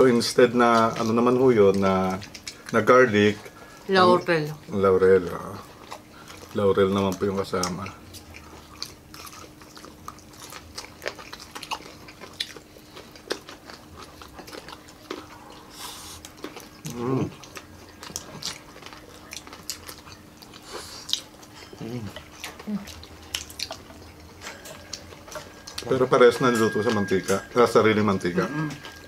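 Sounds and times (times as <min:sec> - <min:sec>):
crunching and chewing: 0:00.0 - 0:29.0
faint steady hum: 0:00.0 - 0:29.0.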